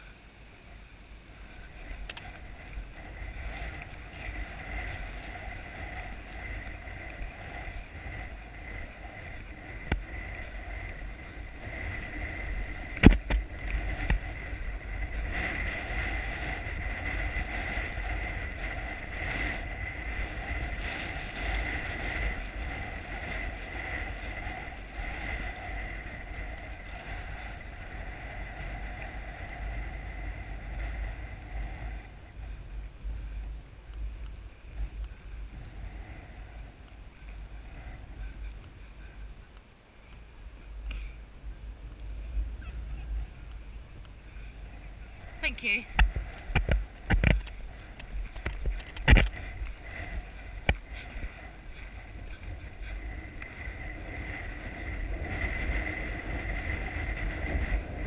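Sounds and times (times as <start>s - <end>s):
wind buffeting camera microphone: 0.0s - 58.0s.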